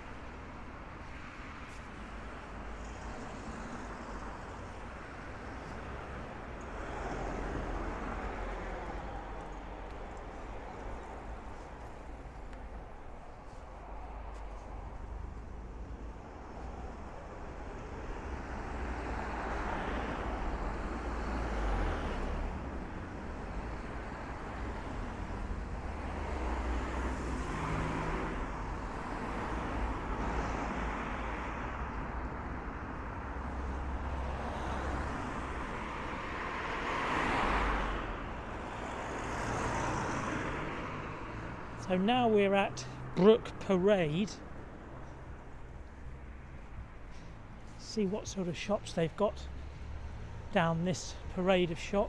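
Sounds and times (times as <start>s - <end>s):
cars passing: 0.0s - 52.0s
steady low traffic rumble: 0.0s - 52.0s.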